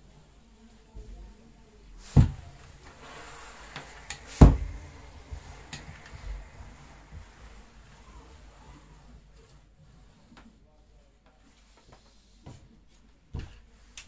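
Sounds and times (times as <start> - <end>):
faint steam hiss: 0.0 - 14.0.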